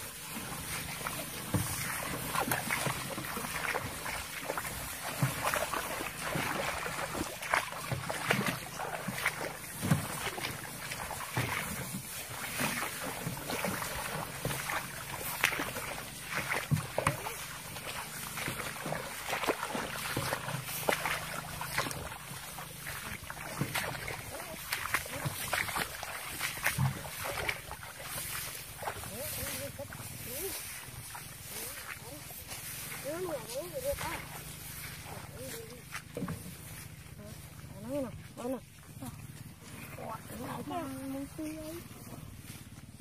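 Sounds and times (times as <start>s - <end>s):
footsteps on soggy ground: 0.0s - 43.0s
swishing through tall wet grass: 0.0s - 43.0s.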